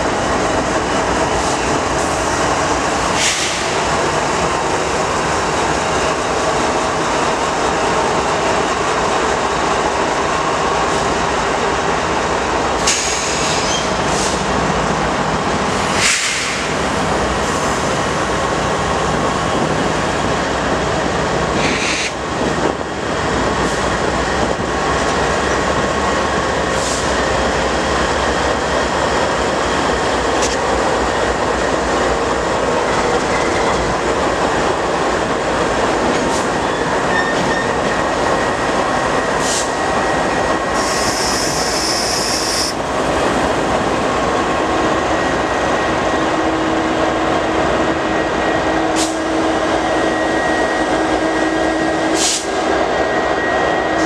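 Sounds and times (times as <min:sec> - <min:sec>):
train railcars rolling by: 0:00.0 - 0:54.0.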